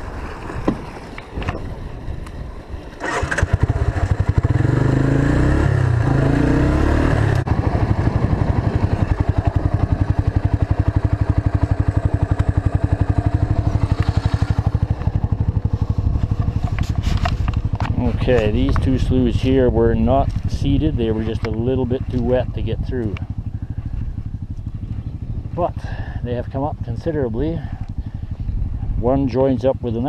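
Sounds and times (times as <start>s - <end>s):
trike engine running: 2.9s - 29.0s.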